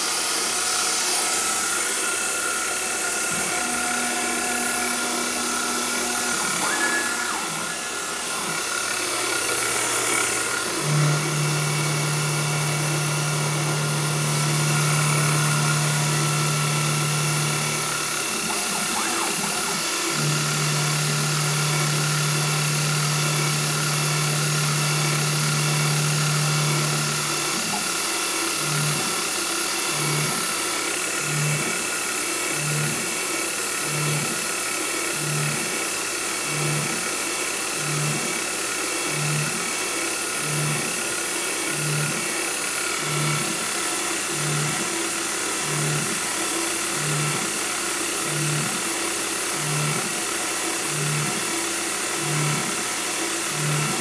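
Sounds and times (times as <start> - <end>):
milling machine hum: 0.0 - 54.0.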